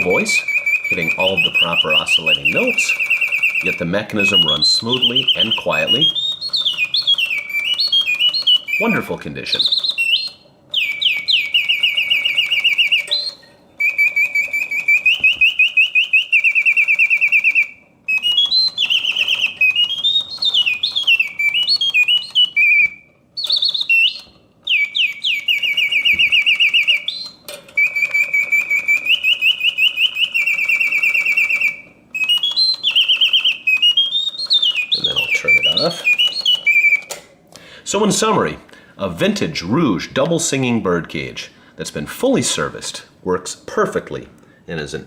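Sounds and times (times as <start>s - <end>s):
mechanical bird whistle warbling: 0.0s - 37.2s.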